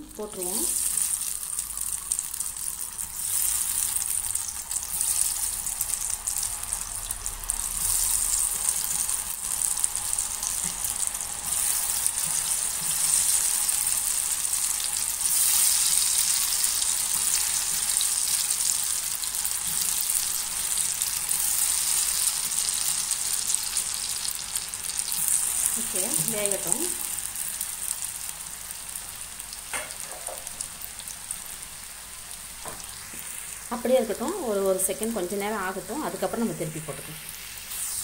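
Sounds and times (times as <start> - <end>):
potato strips sizzling in oil: 0.0 - 38.0.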